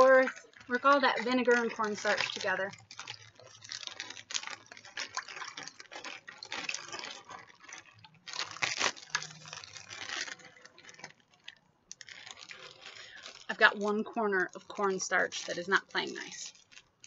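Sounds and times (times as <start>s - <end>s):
plastic bag rustling and crackling: 0.0s - 17.0s
slurry squishing: 0.0s - 17.0s.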